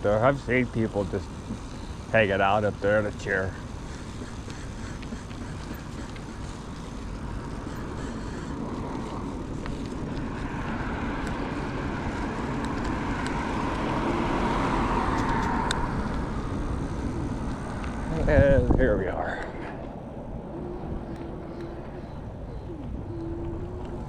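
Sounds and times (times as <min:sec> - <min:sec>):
road vehicle rushing noise: 0:03.4 - 0:23.2.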